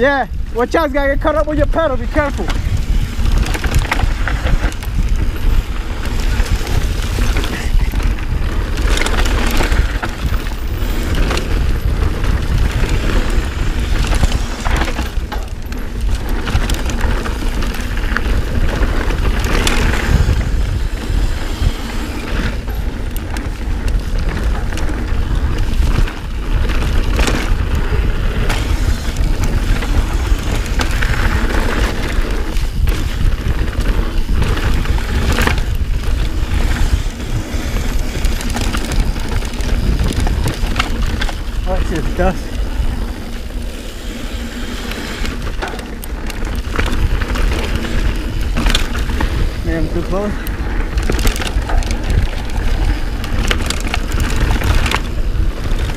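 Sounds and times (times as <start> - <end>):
bike clattering over bumps: 0.0 - 55.9
bike tyres rolling over dirt: 0.0 - 55.9
wind rumble on microphone: 0.0 - 55.9.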